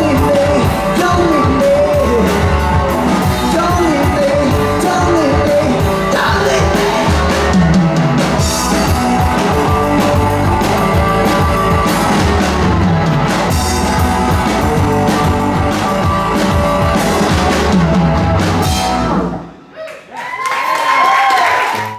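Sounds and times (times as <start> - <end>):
drum kit with cymbals: 0.0 - 19.6
bass guitar: 0.0 - 19.7
electric guitars: 0.0 - 19.7.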